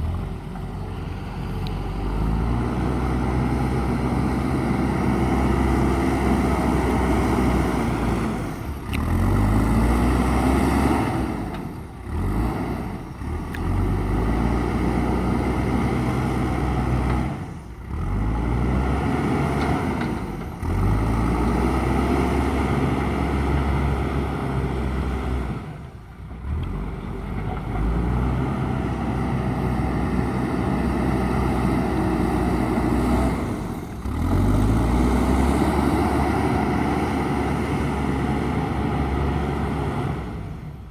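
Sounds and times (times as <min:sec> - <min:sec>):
diesel engine working: 0:00.0 - 0:40.9.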